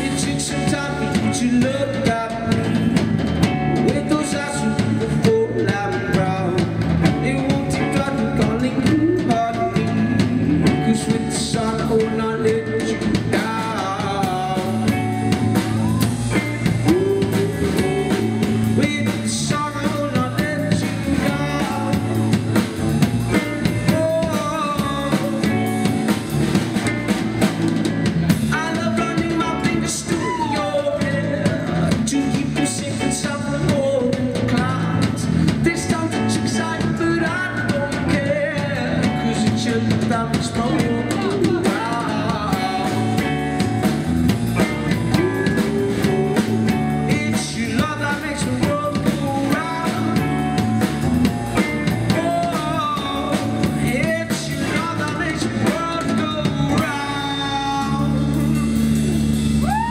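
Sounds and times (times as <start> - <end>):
bass guitar: 0.0 - 59.9
drum kit: 0.0 - 59.9
electric guitar: 0.0 - 59.9
man singing: 0.0 - 59.9.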